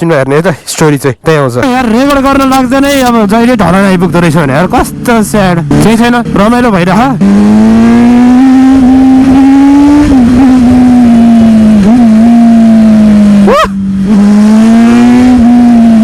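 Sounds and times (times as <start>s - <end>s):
motorcycle engine at high revs: 1.6s - 16.0s.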